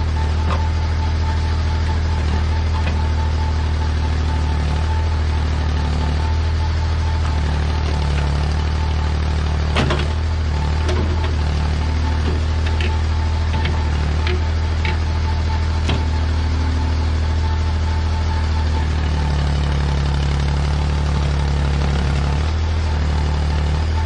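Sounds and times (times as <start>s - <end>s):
backhoe engine running: 0.0s - 24.0s
thin steady whine: 0.0s - 24.0s.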